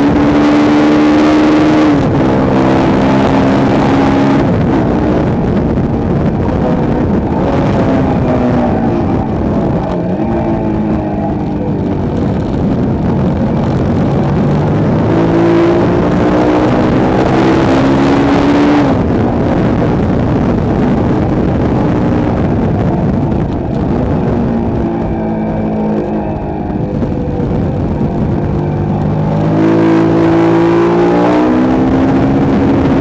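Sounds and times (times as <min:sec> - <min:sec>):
motorcycle engine running hard: 0:00.0 - 0:33.0
steady rush of noise: 0:00.0 - 0:33.0.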